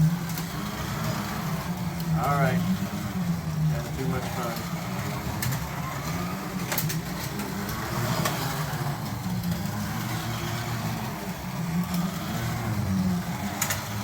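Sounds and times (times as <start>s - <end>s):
slot car motors humming: 0.0s - 14.0s.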